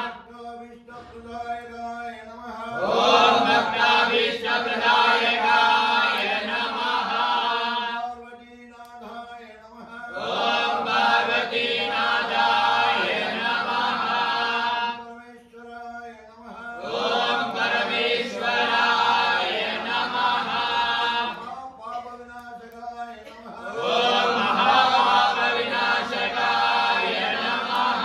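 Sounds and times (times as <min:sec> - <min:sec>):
men chanting in unison: 0:02.3 - 0:08.2, 0:09.0 - 0:22.1, 0:23.2 - 0:28.0.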